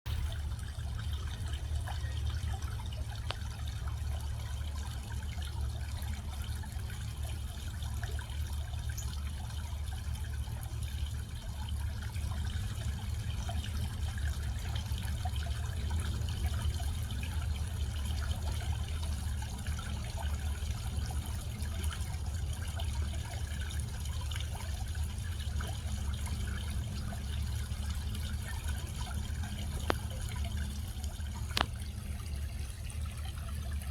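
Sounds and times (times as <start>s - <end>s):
water fountain splashing: 0.1s - 33.9s.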